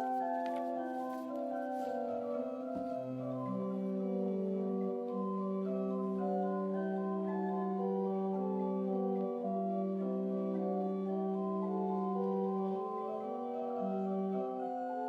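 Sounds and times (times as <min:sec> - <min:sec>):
organ playing sustained chords: 0:00.0 - 0:15.0.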